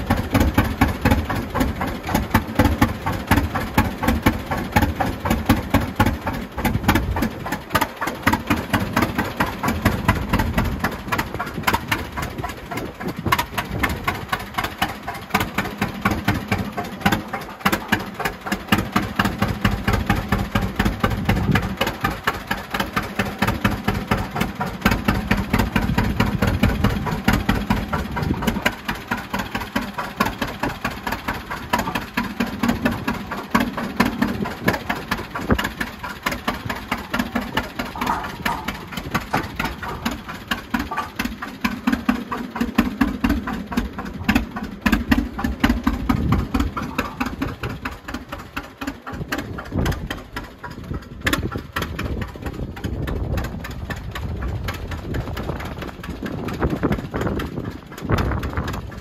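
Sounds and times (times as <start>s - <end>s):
tractor engine popping: 0.0s - 59.0s.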